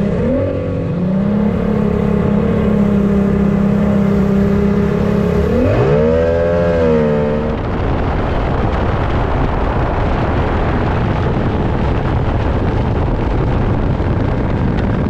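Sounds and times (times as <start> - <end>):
water rushing: 0.0 - 13.6
outboard motor running hard: 0.0 - 15.0
wind rush: 0.0 - 15.0.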